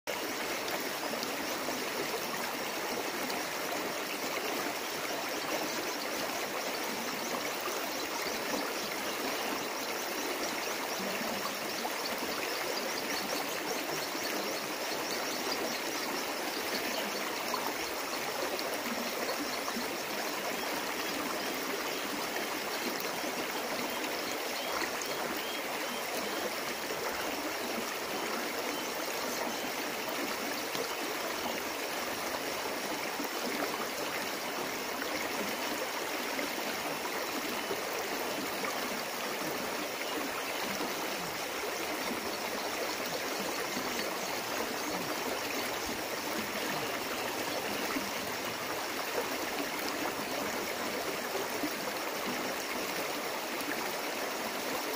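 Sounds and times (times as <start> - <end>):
stream running over rocks: 0.1 - 54.9.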